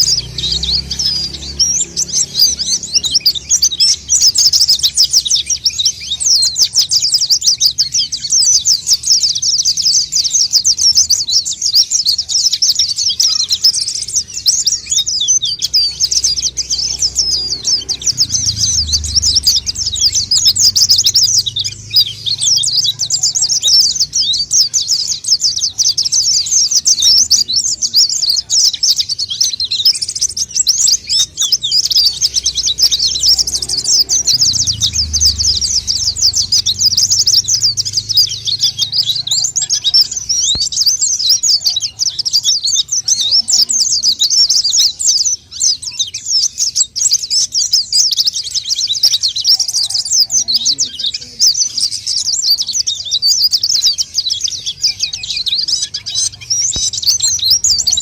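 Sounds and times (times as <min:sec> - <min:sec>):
bird twittering chatter: 0:00.0 - 0:58.0.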